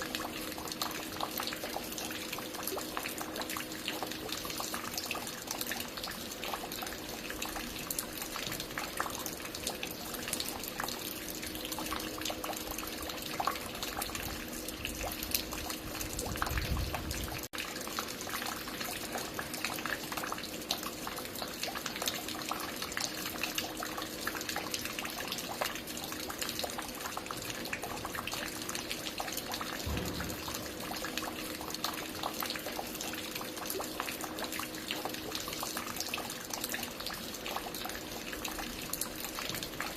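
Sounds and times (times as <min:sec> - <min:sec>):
water dripping and splashing: 0:00.0 - 0:39.9.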